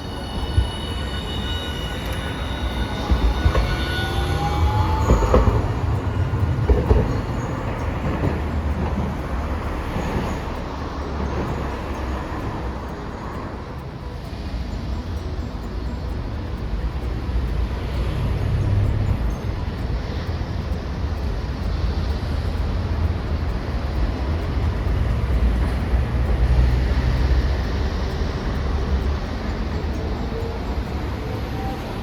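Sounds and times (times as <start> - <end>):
passing vehicles rumbling: 0.0 - 32.0.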